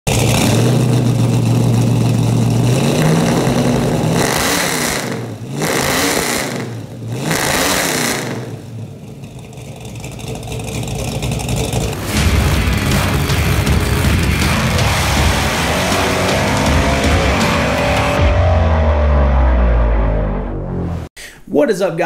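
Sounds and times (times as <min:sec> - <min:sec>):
car engine revving: 0:00.1 - 0:21.1.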